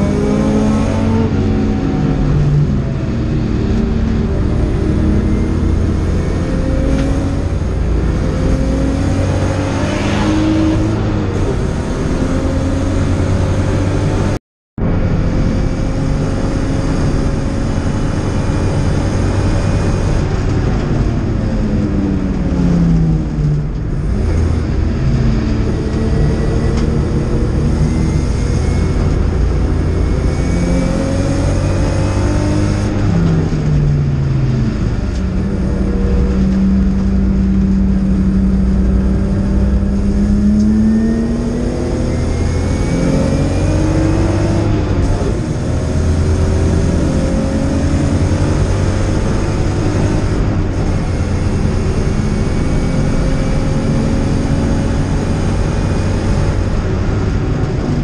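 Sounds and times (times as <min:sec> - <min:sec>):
race car engine revving: 0:00.0 - 0:14.4, 0:15.1 - 0:58.0
road and wind noise: 0:00.0 - 0:58.0.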